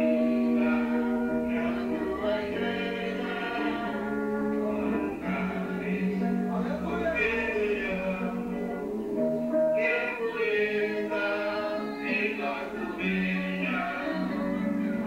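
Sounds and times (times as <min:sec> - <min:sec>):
church worship singing: 0:00.0 - 0:15.0.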